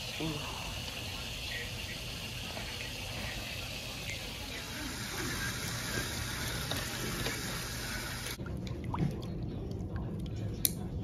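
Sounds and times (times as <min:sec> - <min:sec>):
tap water running into basin: 0:00.0 - 0:10.2.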